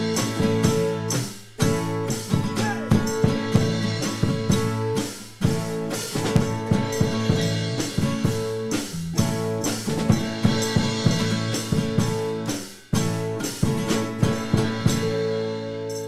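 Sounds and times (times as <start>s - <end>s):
drum kit steady beat: 0.0s - 16.0s
live band playing: 0.0s - 16.0s
strummed guitars: 0.0s - 16.0s.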